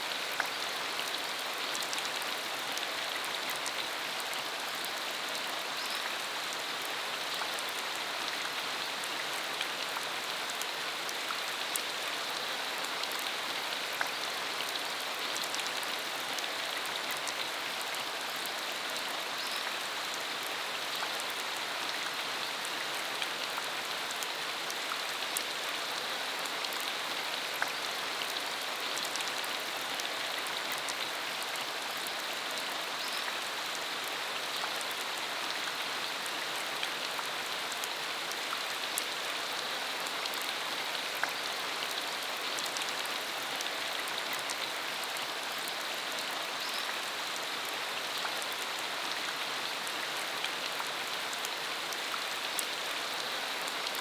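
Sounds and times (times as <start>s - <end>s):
rain on a dirt road: 0.0s - 54.0s.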